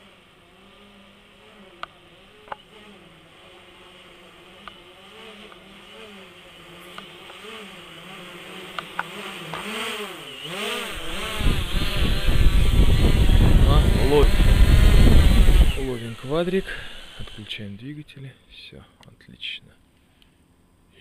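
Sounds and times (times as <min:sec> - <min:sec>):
drone propellers buzzing: 0:00.0 - 0:17.9.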